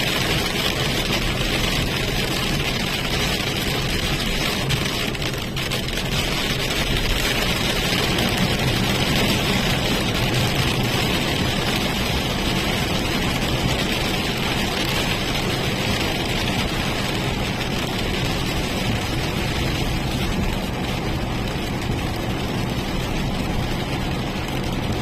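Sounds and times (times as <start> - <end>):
car driving interior rumble: 0.0 - 25.0.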